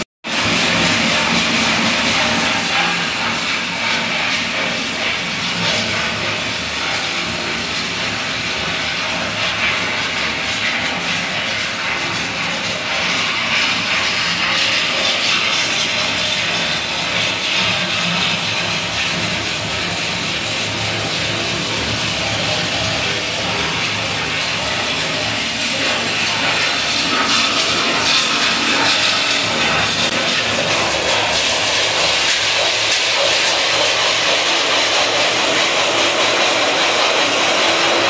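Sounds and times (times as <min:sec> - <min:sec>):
water gushing from a drain pipe: 0:00.0 - 0:38.0.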